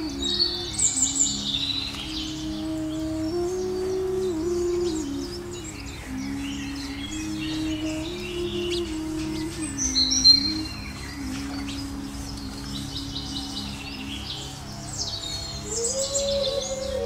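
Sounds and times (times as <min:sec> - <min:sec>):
soft background music: 0:00.0 - 0:17.0
sparrows chirping: 0:00.0 - 0:17.0.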